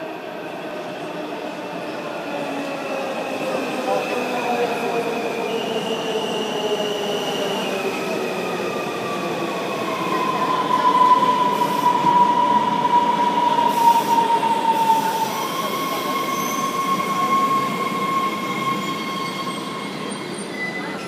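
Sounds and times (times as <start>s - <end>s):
high train whine: 0.0s - 21.0s.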